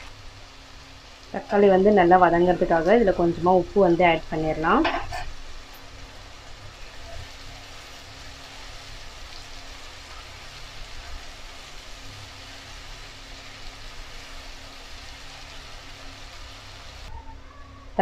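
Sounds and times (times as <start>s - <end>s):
vegetables sizzling in oil: 0.0s - 17.2s.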